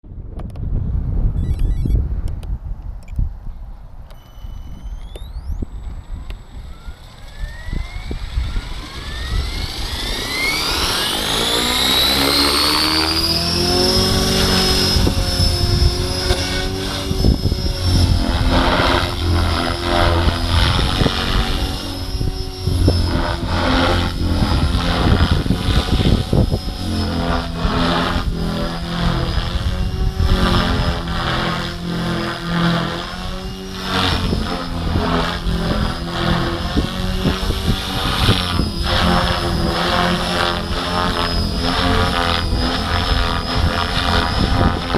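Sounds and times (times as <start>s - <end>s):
wind rumble on microphone: 0.0s - 44.9s
electric helicopter motor whine: 1.3s - 2.0s, 3.9s - 44.9s.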